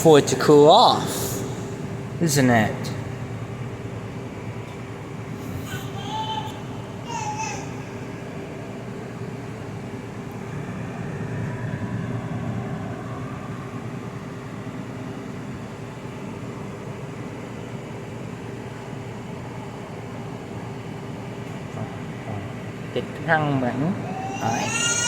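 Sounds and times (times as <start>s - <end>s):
air fryer fan humming: 0.0s - 25.0s.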